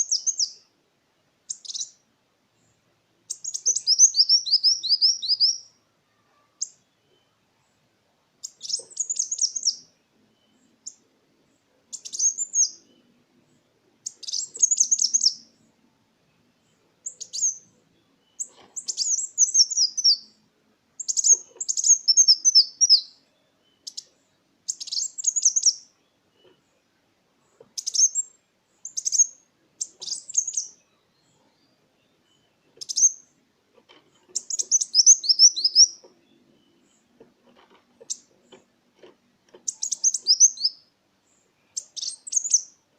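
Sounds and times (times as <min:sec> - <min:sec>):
sunbird singing: 0:00.0 - 0:33.4, 0:34.1 - 0:38.8, 0:39.5 - 0:42.9.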